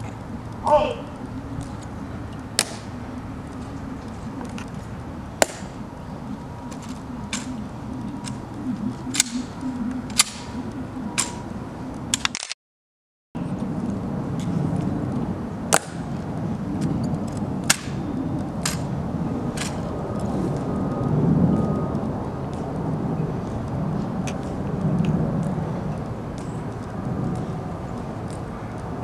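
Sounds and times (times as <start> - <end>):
low outdoor rumble: 0.0 - 12.4, 13.4 - 29.0.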